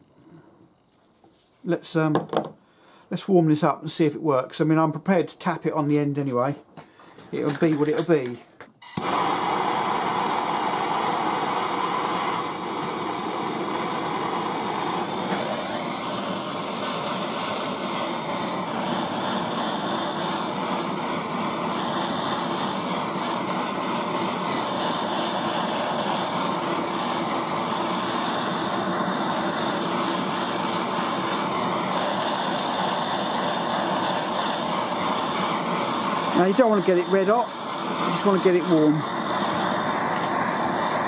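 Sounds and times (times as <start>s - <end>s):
blowtorch hissing roar: 7.3s - 41.0s.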